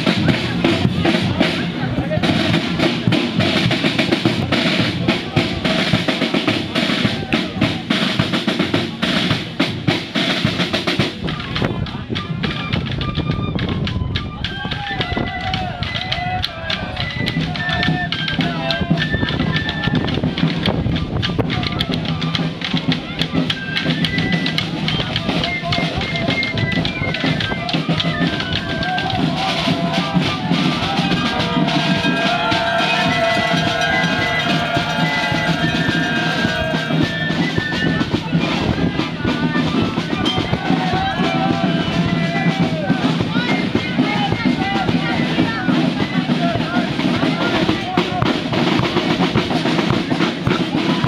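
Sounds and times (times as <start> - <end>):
snare and bass drums marching: 0.0 - 51.0
voices: 0.0 - 51.0.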